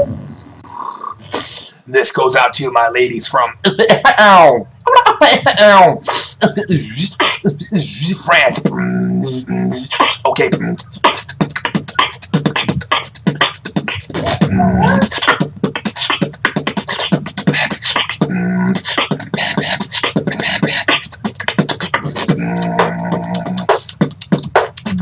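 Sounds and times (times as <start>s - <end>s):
beatboxing: 0.0s - 0.6s, 1.2s - 1.9s, 5.0s - 25.0s.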